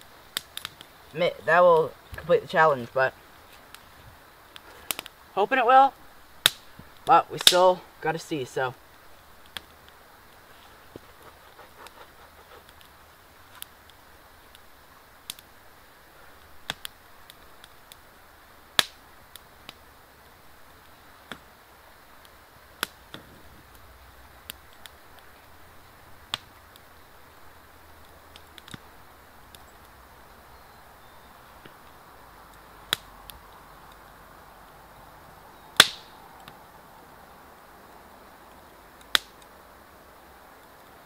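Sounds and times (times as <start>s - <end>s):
campfire crackling and popping: 0.0s - 41.0s
faint steady hiss: 0.0s - 41.0s.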